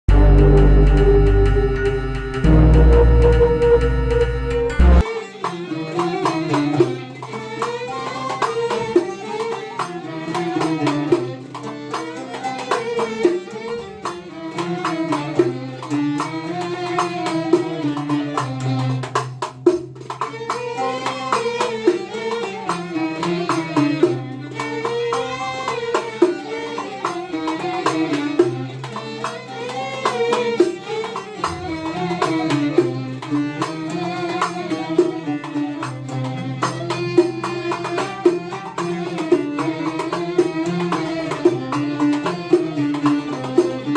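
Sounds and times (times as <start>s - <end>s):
traditional style music: 0.0s - 43.9s.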